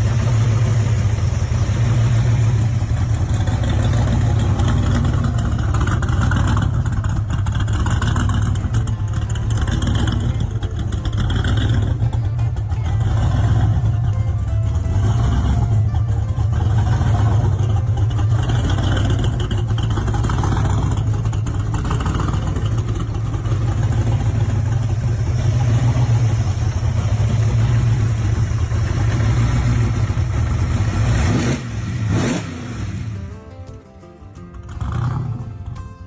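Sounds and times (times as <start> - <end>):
supercharged engine rumbling: 0.0 - 36.0.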